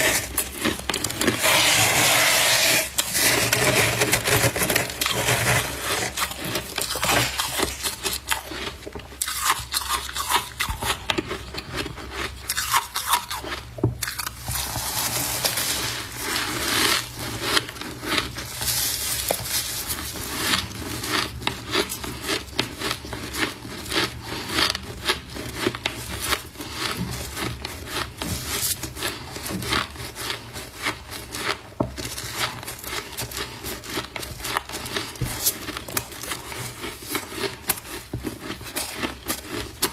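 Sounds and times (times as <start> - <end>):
crunching frost being eaten: 0.0 - 39.9.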